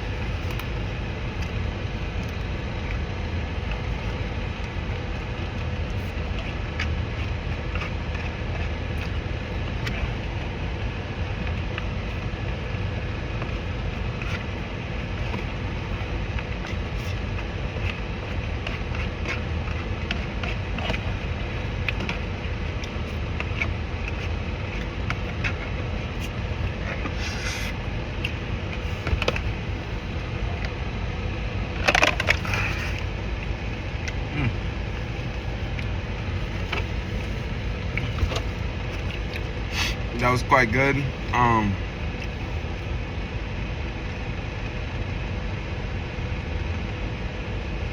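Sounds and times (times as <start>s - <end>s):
crunching and chewing shrimp: 0.0s - 30.8s, 31.5s - 40.1s.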